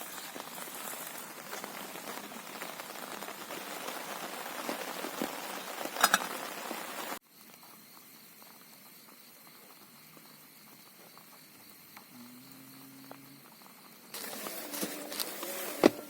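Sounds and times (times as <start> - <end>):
rain pattering on a tent: 0.0 - 11.8, 12.6 - 16.0.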